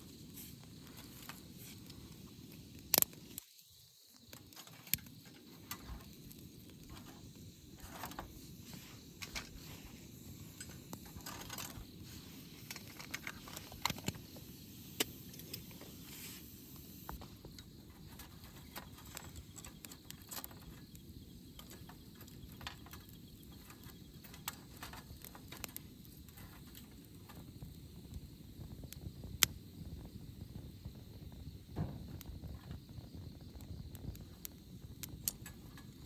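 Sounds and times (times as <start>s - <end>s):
wood campfire crackling: 0.0s - 36.0s.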